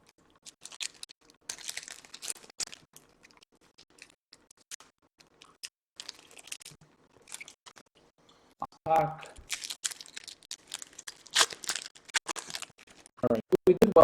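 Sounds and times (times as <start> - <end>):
cards and packaging crinkling: 0.3 - 7.9, 9.2 - 13.2.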